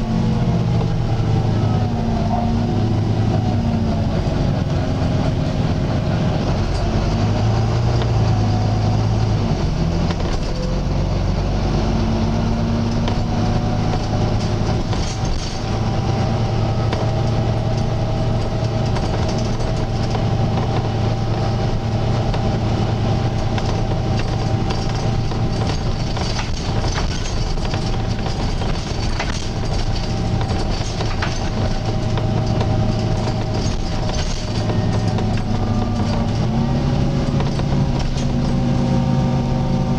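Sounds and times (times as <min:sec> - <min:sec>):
bus diesel engine under load: 0:00.0 - 0:39.9
rattles: 0:00.0 - 0:39.9
road rumble: 0:00.0 - 0:39.9
whining groan: 0:00.0 - 0:39.9.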